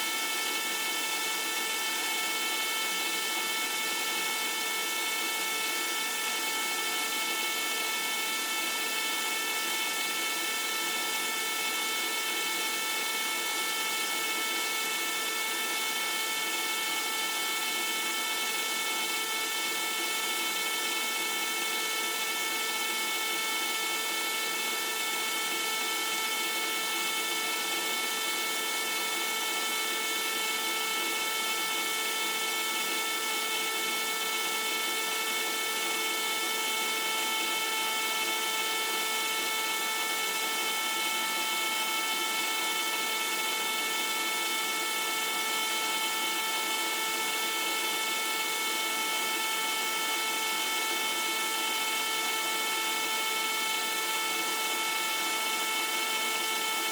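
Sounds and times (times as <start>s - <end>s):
electric pump motor humming: 0.0s - 56.9s.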